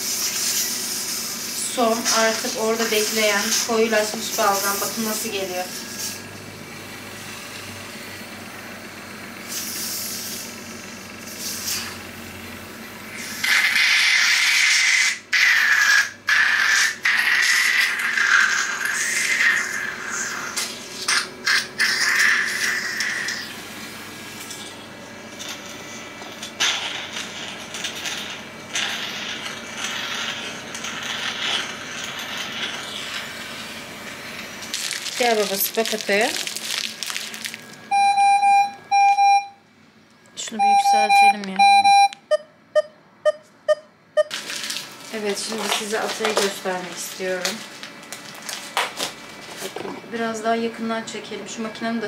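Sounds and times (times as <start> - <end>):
suction aspirator humming: 0.0 - 52.0.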